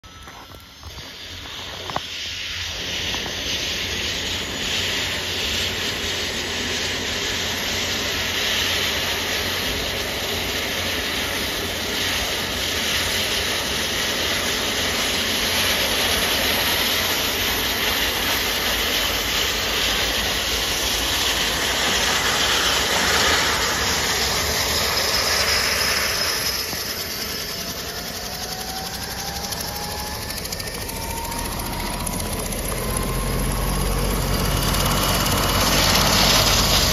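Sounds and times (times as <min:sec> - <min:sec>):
faint turbine whine: 0:00.0 - 0:36.9
helicopter turbine running: 0:00.0 - 0:36.9.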